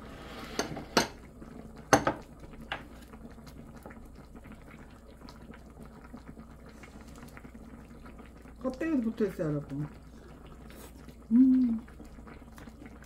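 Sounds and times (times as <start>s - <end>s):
stew bubbling in a pot: 0.0s - 13.0s.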